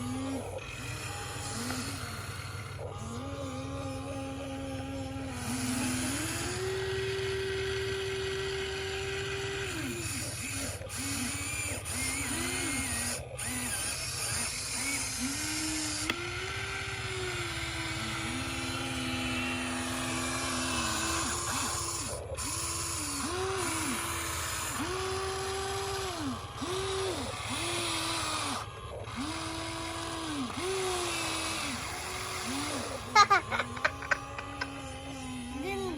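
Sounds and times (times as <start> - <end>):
excavator engine and hydraulics: 0.0 - 35.9.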